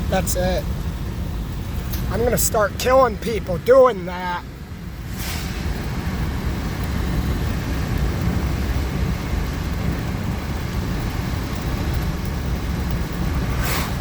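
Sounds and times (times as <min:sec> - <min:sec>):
moving vehicle rumbling: 0:00.0 - 0:14.0.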